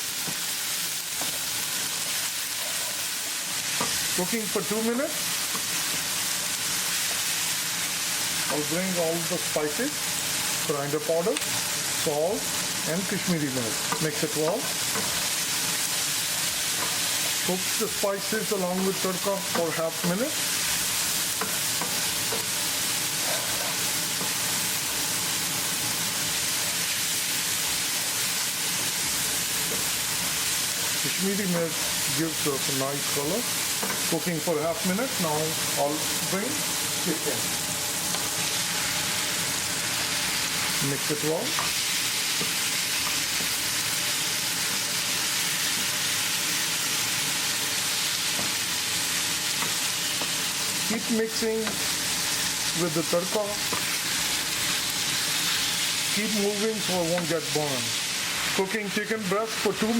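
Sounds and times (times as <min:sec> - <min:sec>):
spices sizzling in hot oil: 0:00.0 - 0:59.9.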